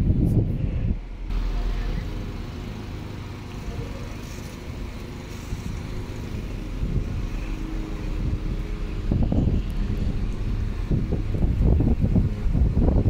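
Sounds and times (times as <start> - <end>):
diesel train engines rumbling: 0.0 - 13.0.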